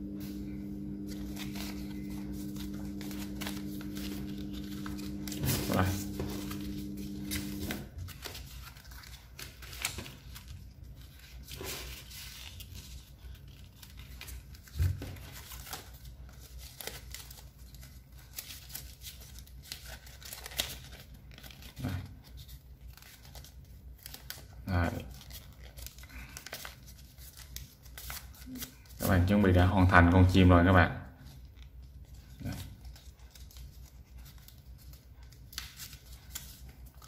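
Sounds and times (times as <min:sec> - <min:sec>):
paper crinkling and rustling: 0:00.8 - 0:29.7, 0:31.2 - 0:37.0.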